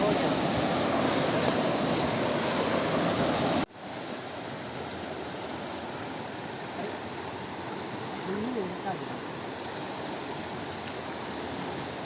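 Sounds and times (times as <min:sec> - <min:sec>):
loud rush of water: 0:00.0 - 0:12.0
river water flowing over stones: 0:00.0 - 0:12.0.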